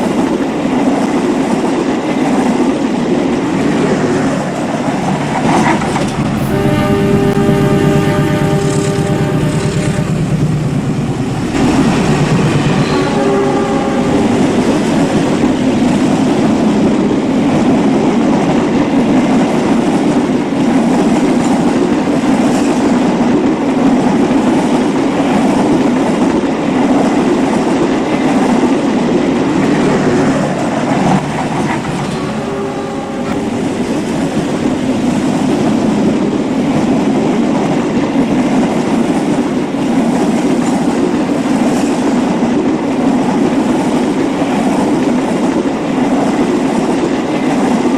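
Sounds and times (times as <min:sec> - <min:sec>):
train rumble and wheel clatter: 0:00.0 - 0:47.9.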